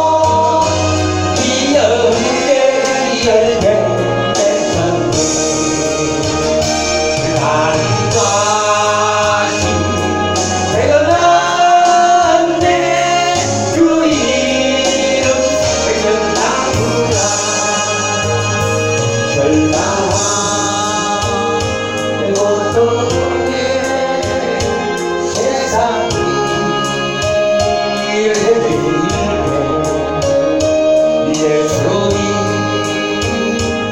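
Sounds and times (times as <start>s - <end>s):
instrumental accompaniment: 0.0s - 33.9s
voices singing praise song: 0.0s - 33.9s.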